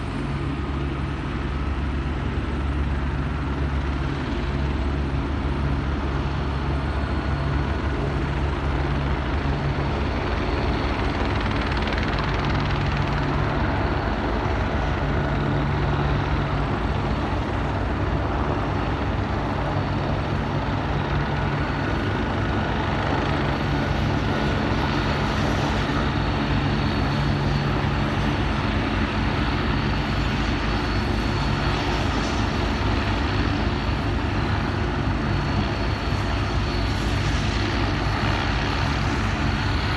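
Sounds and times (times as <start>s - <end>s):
helicopter engine noise: 0.0s - 39.9s
helicopter rotor beating: 0.0s - 39.9s.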